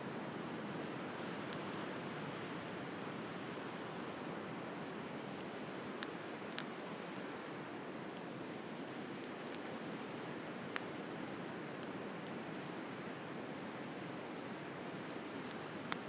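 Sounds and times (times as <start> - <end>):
bonfire crackling and popping: 2.5 - 16.0.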